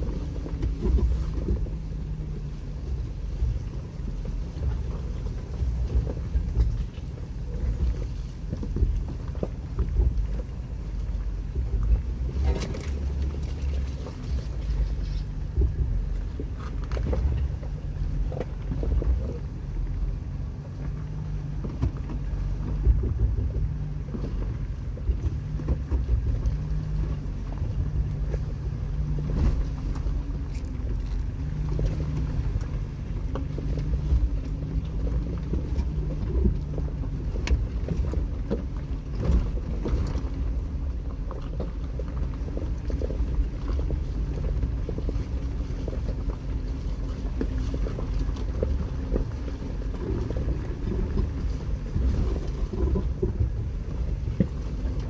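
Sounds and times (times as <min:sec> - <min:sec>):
engine running at low speed: 0:00.0 - 0:55.0.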